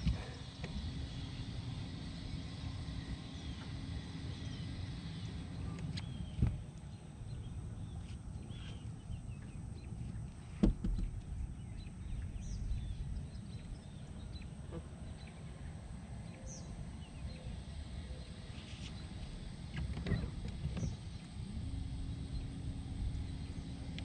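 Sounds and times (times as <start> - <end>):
low rumble: 0.0 - 18.5, 19.1 - 24.0.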